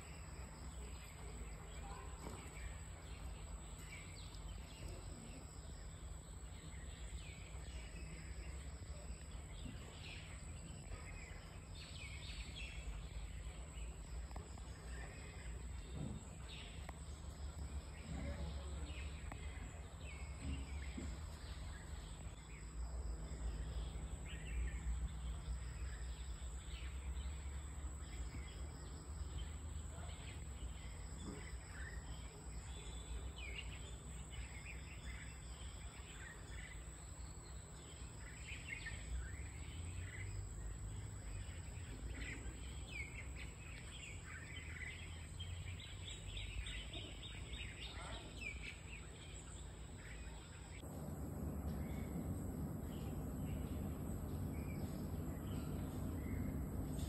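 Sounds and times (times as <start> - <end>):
low outdoor rumble: 0.0 - 57.0
wild birds chirping: 0.0 - 57.0.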